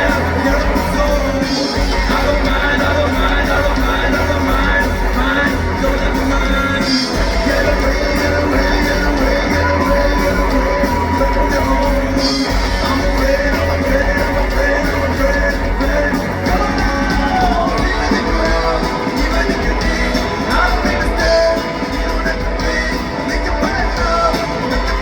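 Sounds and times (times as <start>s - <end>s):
guitar: 0.0s - 25.0s
person singing: 0.0s - 25.0s
pulsing bass beat: 0.0s - 25.0s.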